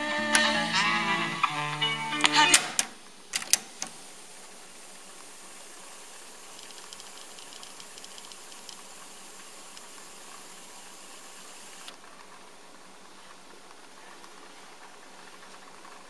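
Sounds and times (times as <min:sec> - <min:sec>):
cassette deck hiss: 0:00.0 - 0:16.0.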